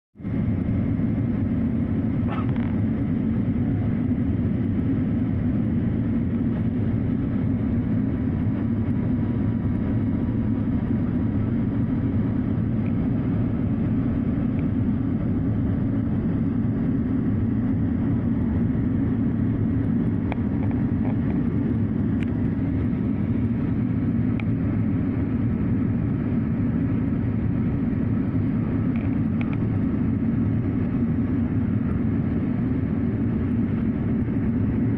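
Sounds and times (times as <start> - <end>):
airliner cabin engine drone: 0.2 - 34.9.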